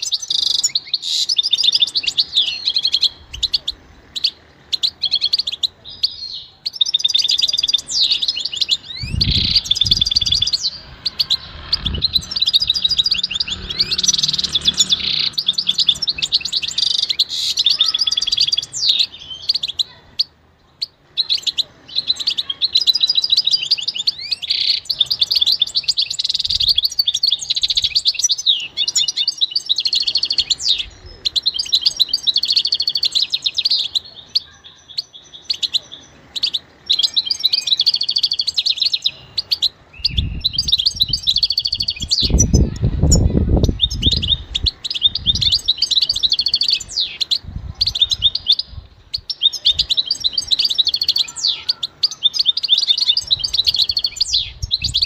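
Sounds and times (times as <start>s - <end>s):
goldfinch twittering song: 0.0s - 55.0s.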